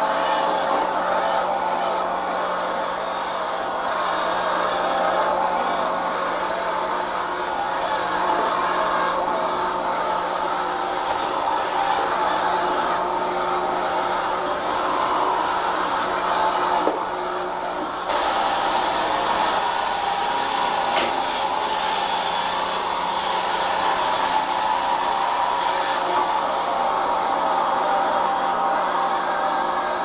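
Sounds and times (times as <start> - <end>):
robot vacuum cleaner whirring: 0.0 - 30.0.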